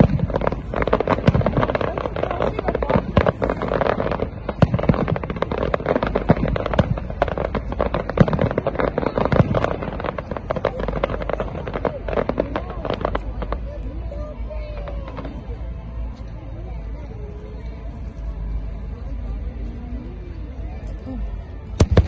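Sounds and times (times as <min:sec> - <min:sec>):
fireworks bangs and crackles: 0:00.0 - 0:19.4, 0:21.4 - 0:22.0.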